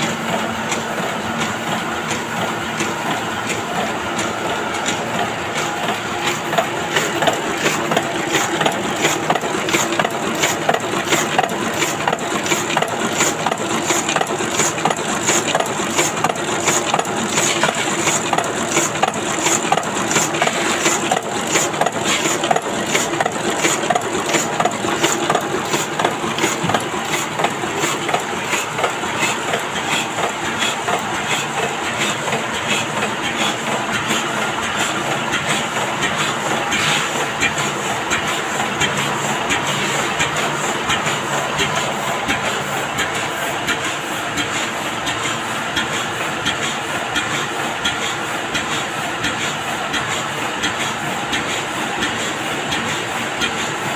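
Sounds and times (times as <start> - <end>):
printing press clattering: 0.0 - 53.9.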